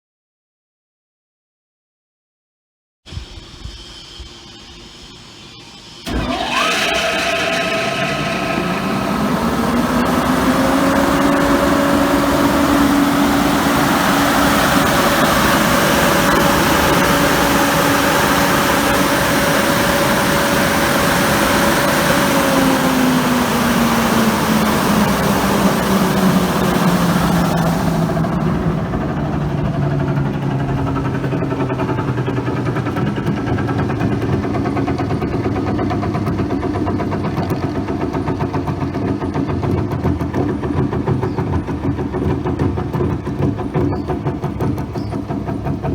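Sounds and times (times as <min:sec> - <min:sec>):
blower motor whine: 0:03.1 - 0:43.5.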